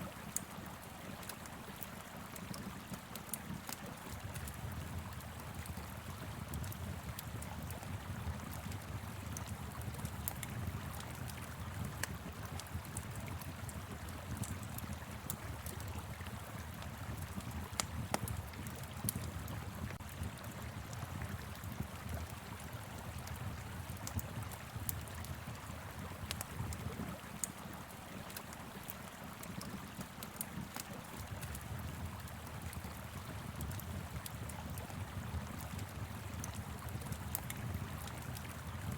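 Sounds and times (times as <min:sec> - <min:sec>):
wood fire crackling and popping: 0:00.3 - 0:38.9.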